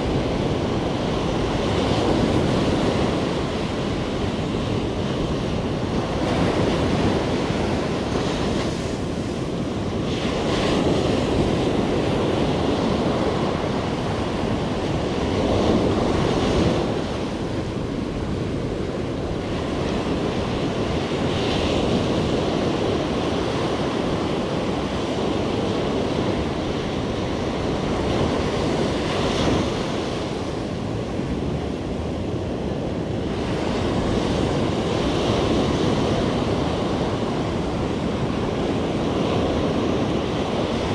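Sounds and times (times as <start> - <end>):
ocean surf breaking: 0.0 - 40.9
wind rumbling on microphone: 0.0 - 40.9.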